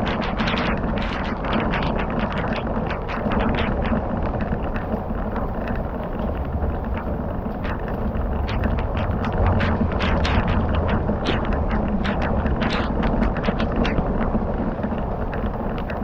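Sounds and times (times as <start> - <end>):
fire crackling and popping: 0.0 - 16.0
wind rumbling on microphone: 0.0 - 16.0.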